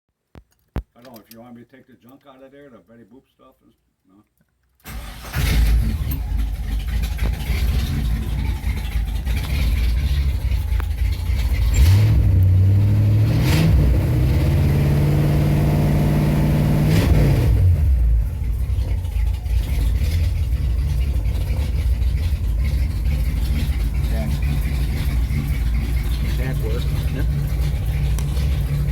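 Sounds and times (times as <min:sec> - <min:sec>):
car engine idling and revving: 0:04.9 - 0:28.9.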